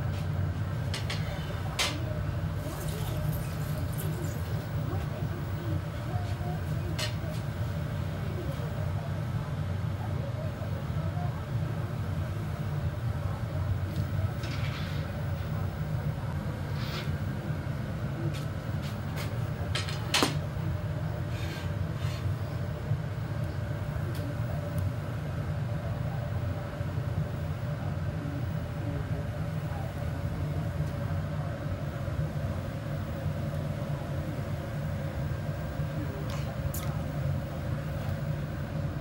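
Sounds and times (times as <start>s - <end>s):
gas burner roaring: 0.0s - 39.0s.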